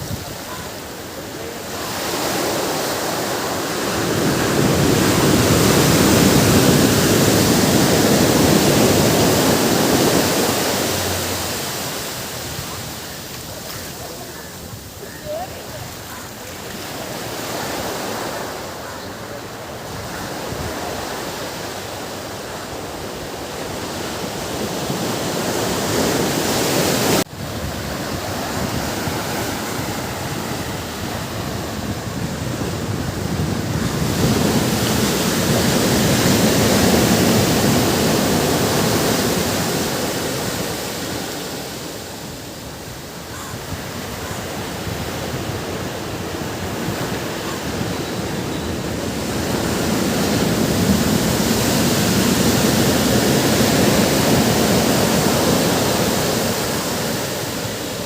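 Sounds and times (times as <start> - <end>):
ocean surf breaking on beach: 0.0 - 58.0.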